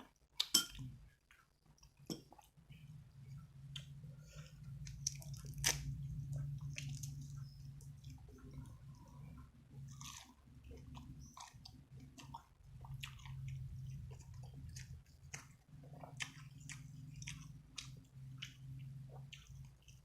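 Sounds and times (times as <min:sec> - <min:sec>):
person chewing food: 0:00.0 - 0:20.0
steady low hum: 0:02.2 - 0:20.0.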